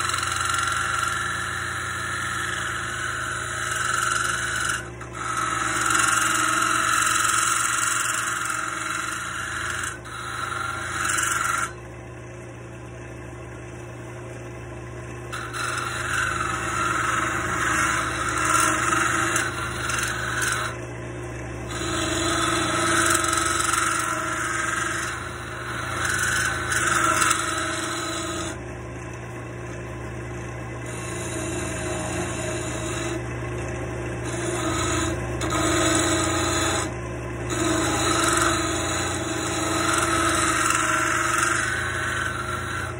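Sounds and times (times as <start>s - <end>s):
turning tool scraping wood: 0.0s - 11.8s, 15.3s - 20.8s, 21.6s - 28.6s, 30.8s - 33.3s, 34.2s - 42.9s
wood lathe motor hum: 0.0s - 12.4s, 14.4s - 42.9s.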